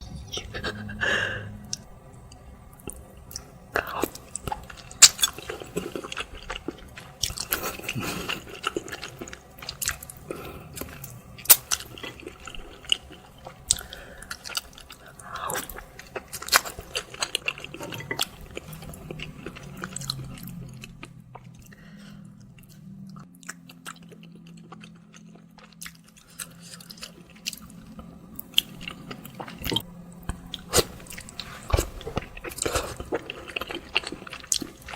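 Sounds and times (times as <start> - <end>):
close chewing and crunching: 0.0 - 34.9
faint low hum: 0.0 - 34.9.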